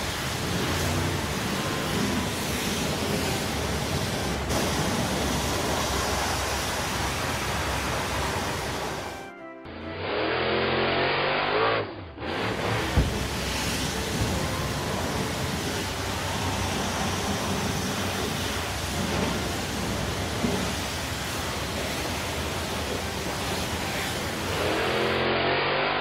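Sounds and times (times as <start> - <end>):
high-pressure water jet spraying: 0.0 - 9.2, 12.2 - 26.0.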